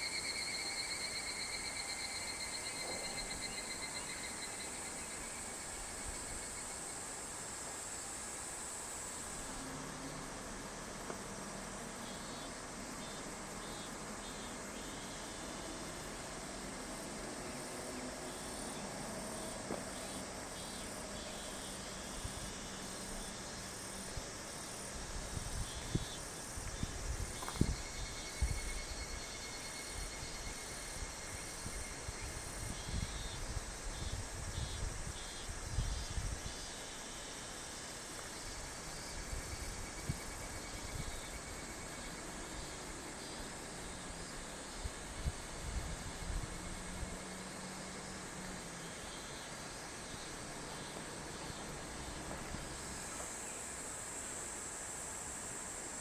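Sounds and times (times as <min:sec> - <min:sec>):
insects trilling and buzzing: 0:00.0 - 0:56.0.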